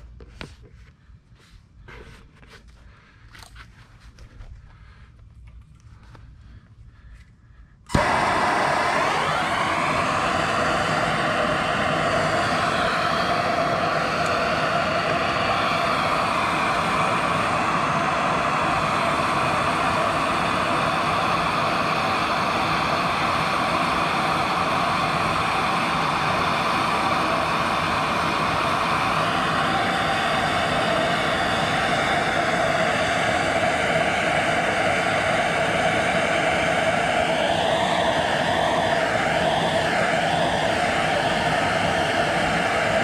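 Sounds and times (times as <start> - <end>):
gas torch flame rushing: 7.8 - 43.0.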